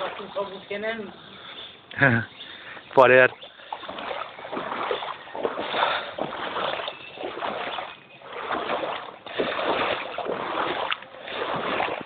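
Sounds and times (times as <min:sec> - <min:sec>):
floodwater splashing and sloshing: 0:00.0 - 0:12.0.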